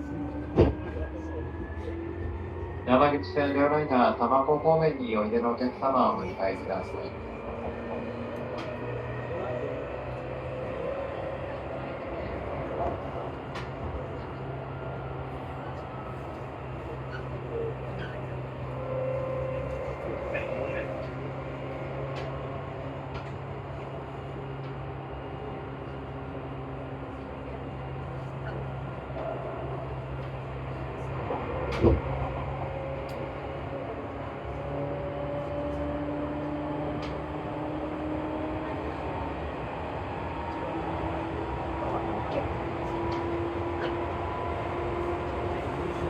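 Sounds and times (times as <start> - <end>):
train wheel noise: 0.0 - 46.0.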